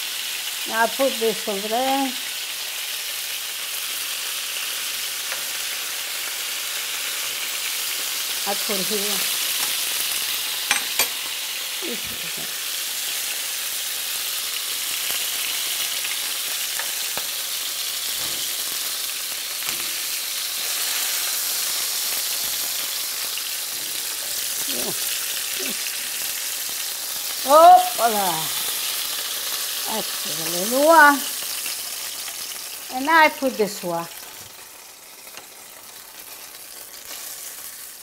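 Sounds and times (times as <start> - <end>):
fish sizzling in oil: 0.0 - 38.0.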